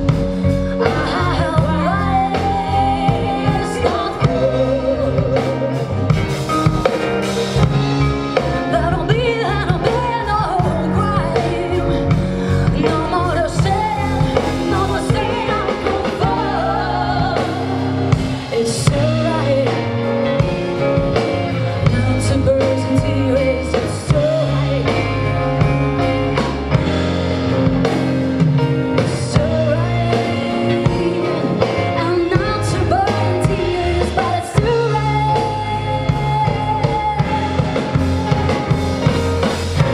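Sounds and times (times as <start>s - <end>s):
person singing: 0.0s - 6.3s, 8.4s - 26.5s, 29.0s - 39.2s
drum kit beat: 0.0s - 39.9s
guitars: 0.0s - 39.9s.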